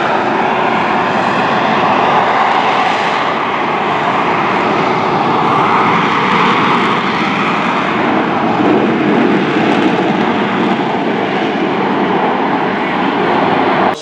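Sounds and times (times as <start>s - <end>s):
jet engine running: 0.0s - 14.0s.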